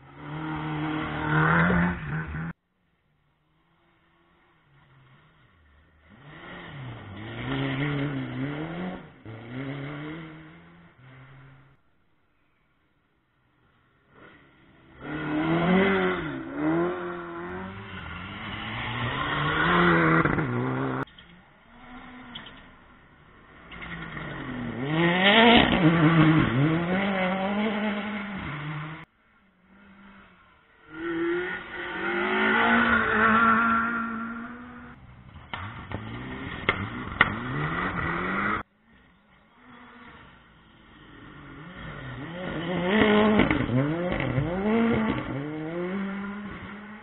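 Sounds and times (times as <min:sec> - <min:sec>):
rally car engines revving: 0:00.0 - 0:02.6, 0:03.6 - 0:11.8, 0:13.9 - 0:47.0.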